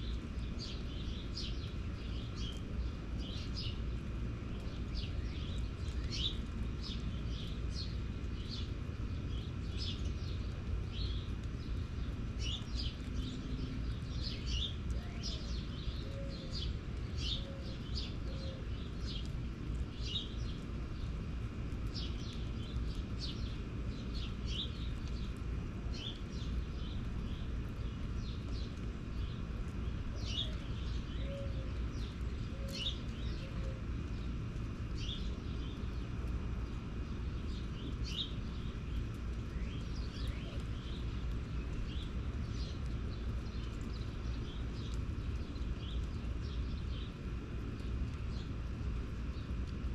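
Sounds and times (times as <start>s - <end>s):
small birds chirping: 0.0s - 49.9s
steady low rumble: 0.0s - 49.9s.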